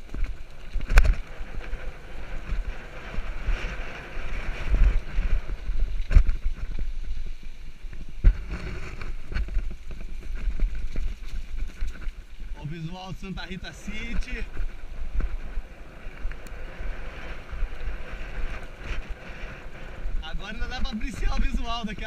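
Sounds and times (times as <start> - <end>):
bike tyres rumbling and rattling: 0.0 - 22.0
wind buffeting microphone: 0.0 - 22.0.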